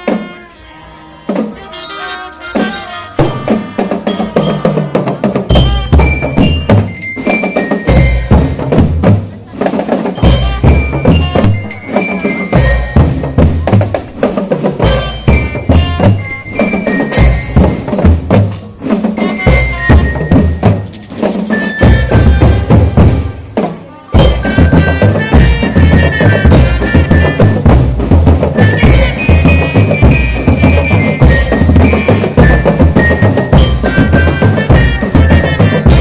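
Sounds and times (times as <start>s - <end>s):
marching drums: 0.0s - 0.5s, 2.5s - 36.0s
glockenspiel melody: 1.5s - 9.0s, 10.2s - 13.9s, 14.8s - 18.3s, 19.0s - 23.4s, 24.0s - 36.0s.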